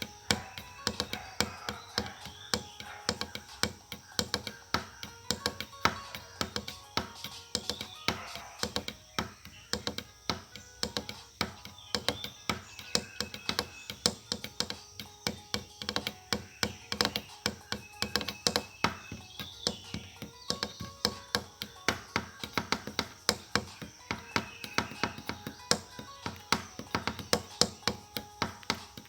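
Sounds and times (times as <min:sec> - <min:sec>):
rapid tapping: 0:00.0 - 0:29.0.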